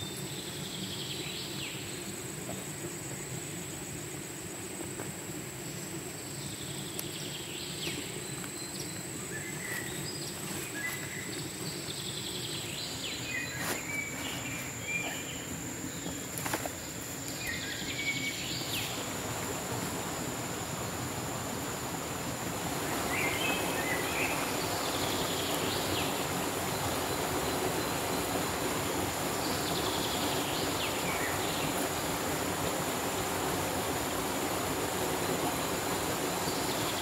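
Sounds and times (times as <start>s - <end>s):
high insect whine: 0.0s - 37.0s
birds chirping: 5.7s - 37.0s.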